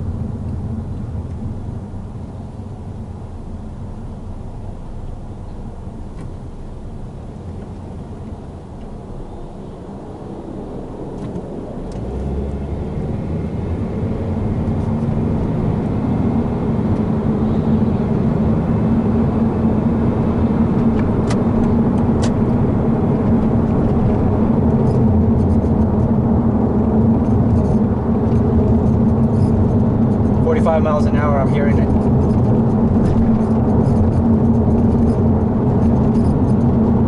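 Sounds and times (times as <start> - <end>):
car cabin road and engine noise: 0.0 - 37.0.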